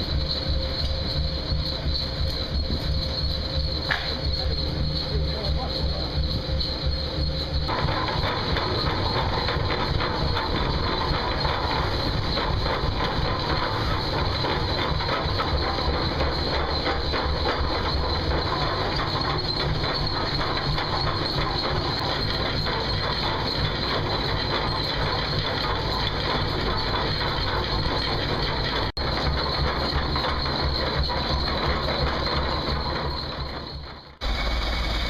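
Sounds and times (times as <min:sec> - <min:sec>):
machinery clattering over rumble: 0:00.0 - 0:35.0.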